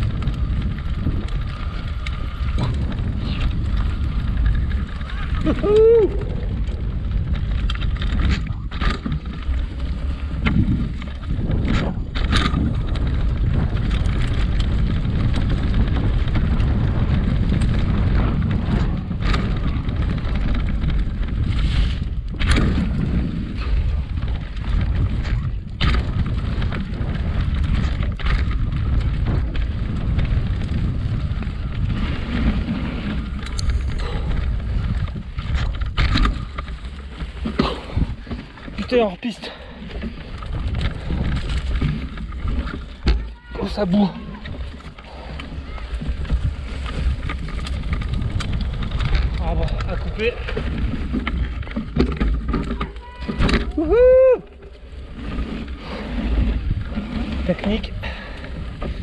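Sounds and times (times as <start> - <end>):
bike rattling and knocking: 0.0 - 59.0
tyres rolling over dry leaves: 0.0 - 59.0
wind buffeting microphone: 0.0 - 59.0.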